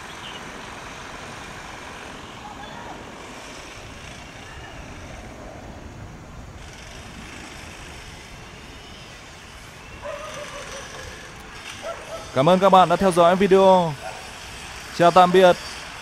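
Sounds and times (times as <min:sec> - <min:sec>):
distant jet engine rumble: 0:00.0 - 0:16.0.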